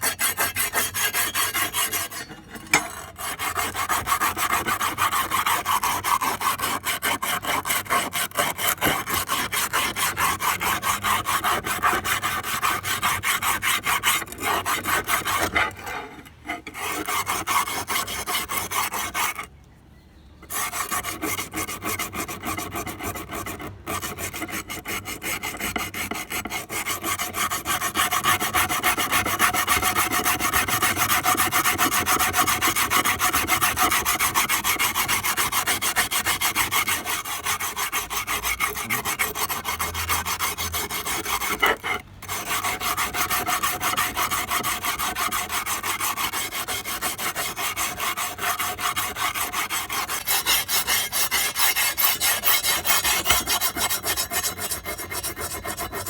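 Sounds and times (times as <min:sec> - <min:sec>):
hand file scraping: 0:00.0 - 0:19.5, 0:20.5 - 0:56.0.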